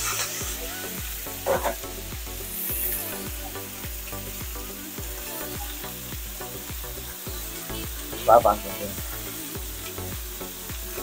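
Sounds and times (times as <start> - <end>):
background music with beat: 0.0 - 11.0
fish frying in oil: 0.0 - 11.0.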